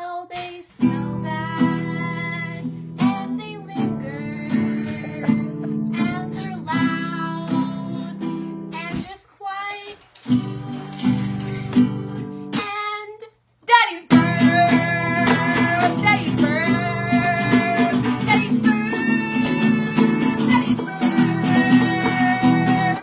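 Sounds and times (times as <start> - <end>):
person singing: 0.0 - 23.0
acoustic guitar strumming chords: 0.8 - 9.1, 10.2 - 12.7, 14.1 - 23.0.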